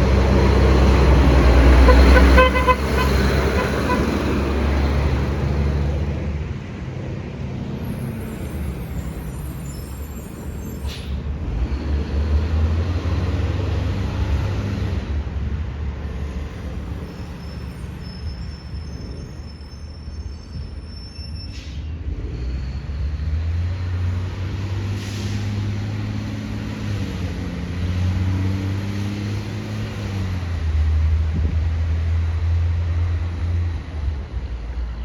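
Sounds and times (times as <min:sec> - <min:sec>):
garbage truck diesel engine: 0:00.0 - 0:35.0.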